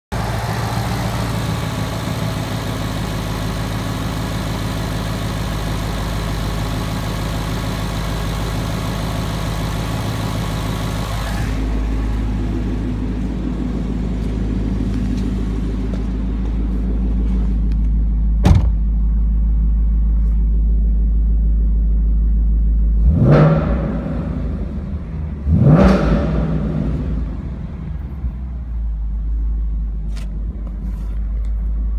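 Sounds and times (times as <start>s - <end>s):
car engine idling: 0.1s - 31.9s.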